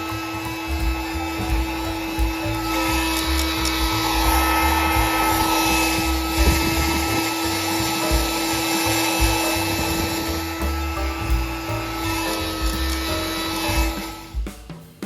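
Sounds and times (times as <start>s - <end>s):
music with bass beat: 0.0s - 15.0s.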